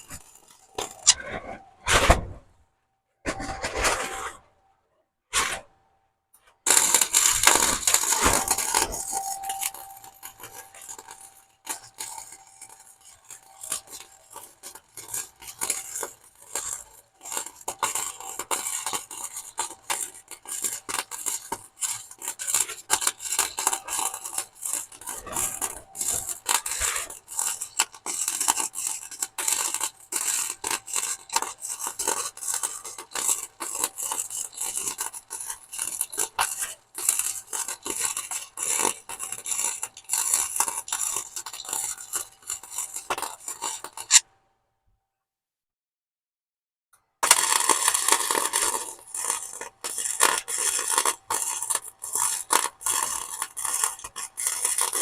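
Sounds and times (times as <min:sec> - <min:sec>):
arc welding crackle: 0:00.0 - 0:01.2, 0:06.7 - 0:44.2, 0:47.2 - 0:55.0.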